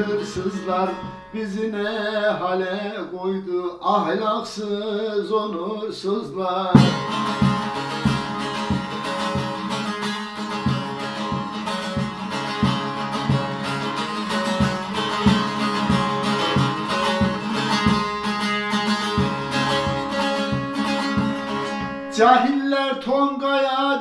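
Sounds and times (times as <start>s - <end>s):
long-necked lute strummed: 0.0s - 3.0s, 6.7s - 23.1s.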